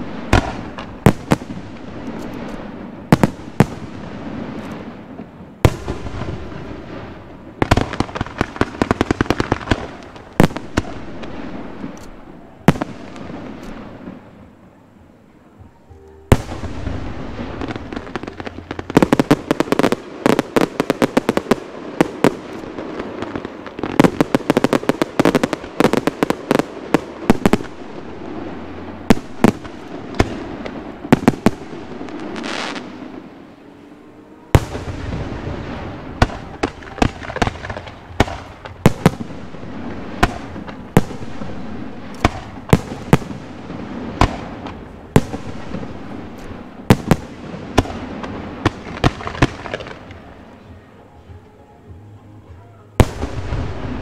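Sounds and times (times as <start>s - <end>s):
fireworks bangs: 0.0s - 14.8s, 15.6s - 51.4s, 52.5s - 54.0s.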